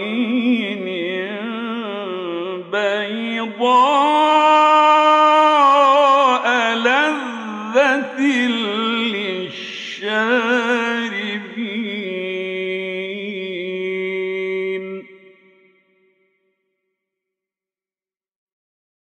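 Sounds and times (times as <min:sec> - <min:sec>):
man chanting melodically: 0:00.0 - 0:15.4.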